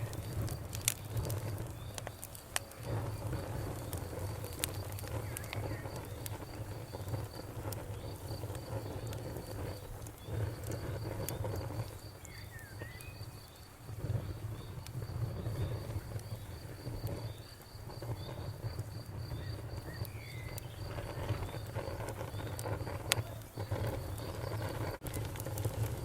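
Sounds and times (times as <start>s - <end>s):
bonfire crackling and popping: 0.0s - 26.0s
cricket chirping: 0.0s - 26.0s
low rumble of burning fire: 0.0s - 26.0s.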